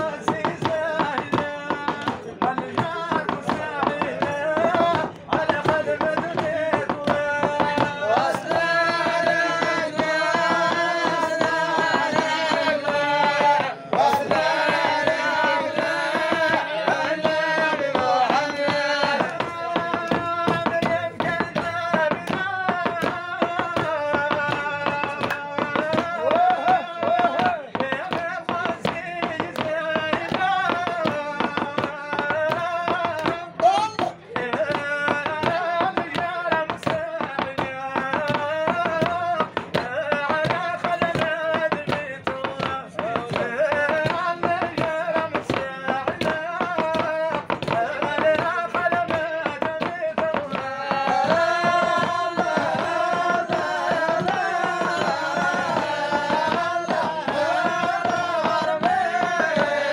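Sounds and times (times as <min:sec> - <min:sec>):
fast percussive beat: 0:00.0 - 0:59.9
men chanting together: 0:00.0 - 0:59.9.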